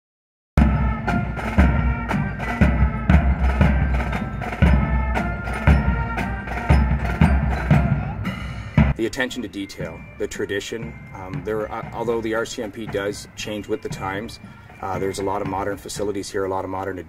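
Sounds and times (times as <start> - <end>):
marching band playing: 0.6 - 16.8
drums beating: 0.6 - 17.0.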